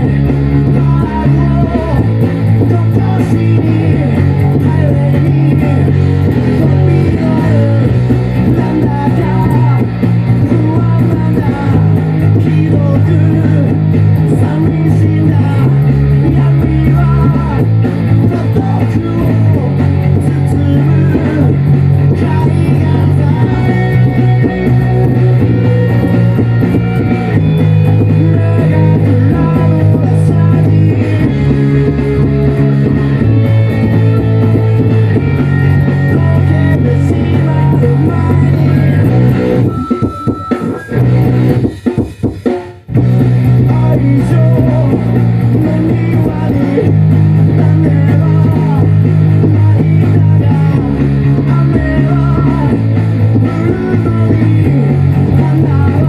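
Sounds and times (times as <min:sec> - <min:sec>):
electric bass driving bassline: 0:00.0 - 0:42.1, 0:42.8 - 0:56.0
rock band music: 0:00.0 - 0:56.0.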